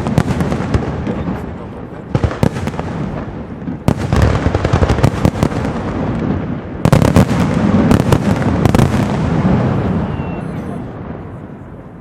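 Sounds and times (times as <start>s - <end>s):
fireworks bursting with bangs: 0.0s - 12.0s
fireworks crackling: 0.0s - 12.0s.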